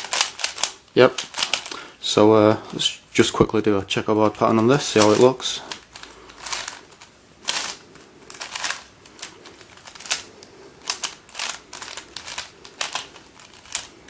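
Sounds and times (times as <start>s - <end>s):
plastic puzzle layers clacking: 0.0s - 1.8s, 4.2s - 14.0s.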